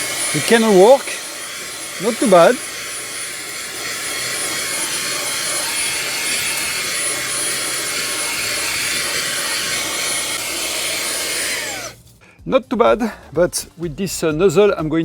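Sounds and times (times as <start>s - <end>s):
handheld vacuum running: 0.0s - 12.0s.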